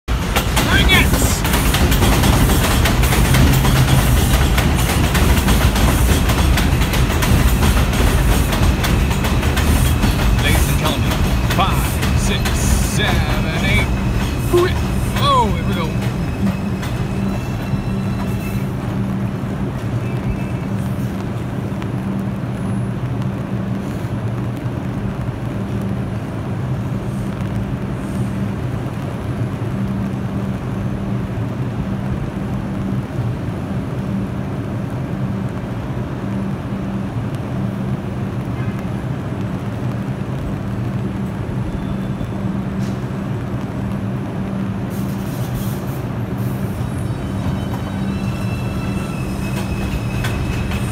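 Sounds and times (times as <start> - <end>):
subway train humming: 0.0 - 50.9.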